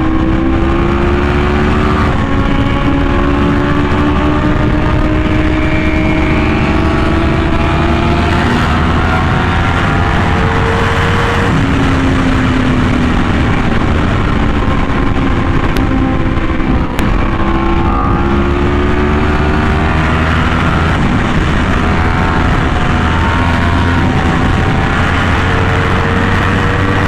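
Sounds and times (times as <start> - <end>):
heavy wind rush: 0.0 - 27.0
motorcycle engine revving hard: 0.0 - 27.0.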